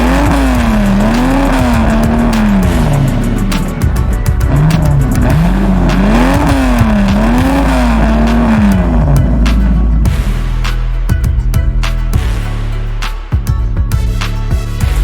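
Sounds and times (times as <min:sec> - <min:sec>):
deep swooping tone: 0:00.0 - 0:15.0
heavy steady rumble: 0:00.0 - 0:15.0.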